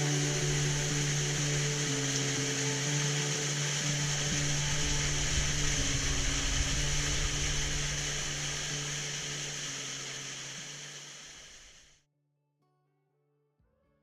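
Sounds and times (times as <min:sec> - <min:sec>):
soft low musical drone: 0:00.0 - 0:11.8
waterfall rushing: 0:00.0 - 0:11.9.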